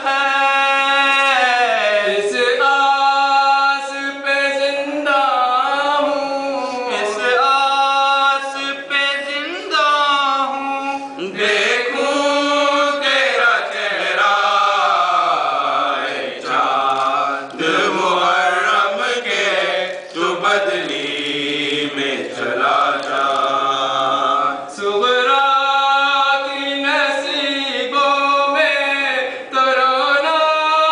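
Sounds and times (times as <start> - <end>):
men chanting a lament: 0.0 - 30.9.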